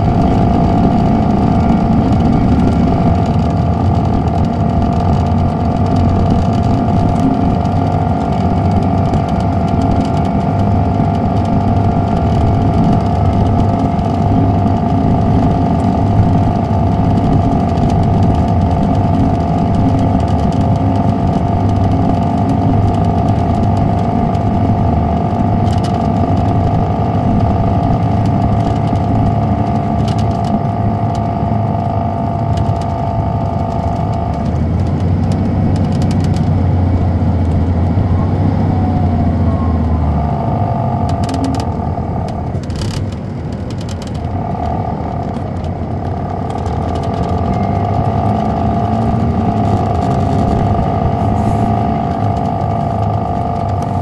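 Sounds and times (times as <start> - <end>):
sharp clicks or rattles: 0.0 - 39.4, 40.3 - 54.0
diesel engine drone: 0.0 - 54.0
high steady whine: 0.0 - 54.0.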